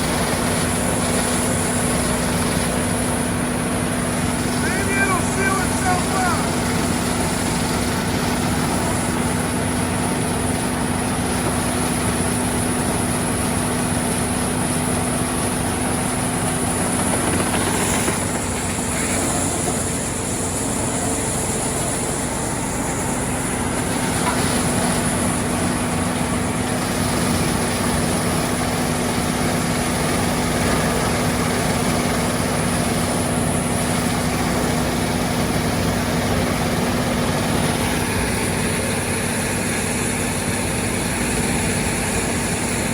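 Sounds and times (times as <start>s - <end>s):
heavy equipment engine humming: 0.0s - 42.9s.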